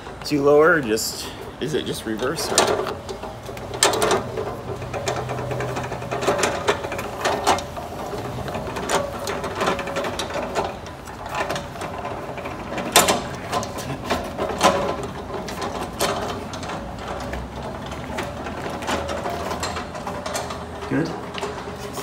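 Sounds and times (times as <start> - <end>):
hand-crank winch ratchet clicking: 0.0 - 22.0.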